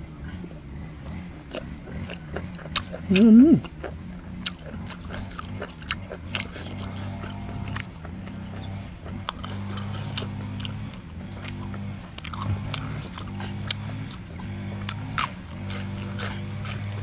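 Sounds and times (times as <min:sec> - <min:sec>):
steady low hum: 0:00.0 - 0:17.0
chewing food: 0:00.2 - 0:17.0.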